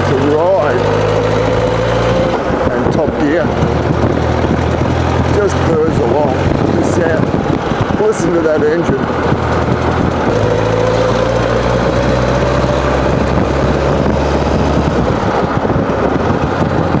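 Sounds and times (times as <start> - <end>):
motorcycle engine purring: 0.0 - 17.0.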